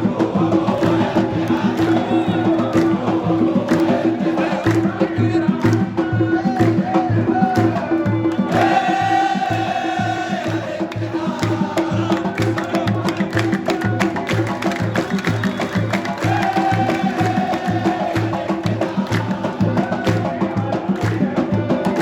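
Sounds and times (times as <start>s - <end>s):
crowd chanting: 0.0s - 22.0s
steady drum beat: 0.0s - 22.0s.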